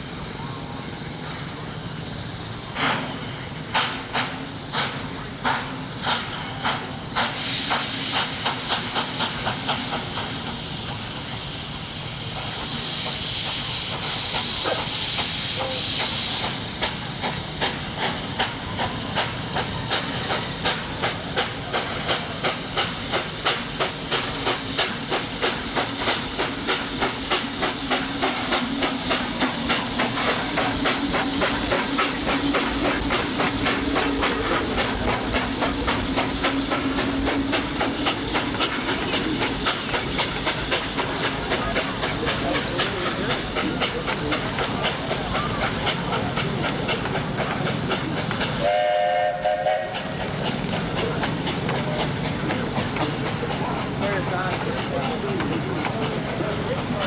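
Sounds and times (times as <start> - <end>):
loud hiss of steam: 0.0 - 57.0
steam locomotive chuffing: 0.0 - 57.0.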